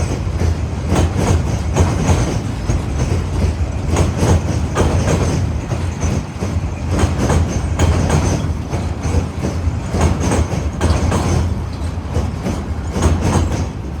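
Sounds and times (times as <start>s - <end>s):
wheels clacking over rail joints: 0.0s - 14.0s.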